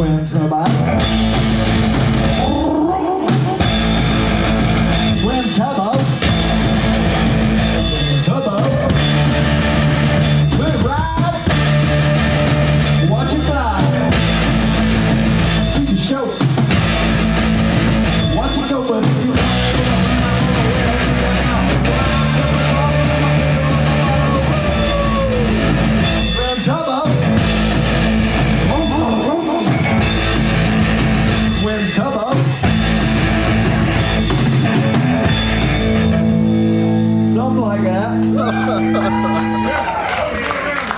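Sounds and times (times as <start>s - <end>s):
low bass notes: 0.0s - 40.3s
live rock band playing: 0.0s - 40.9s.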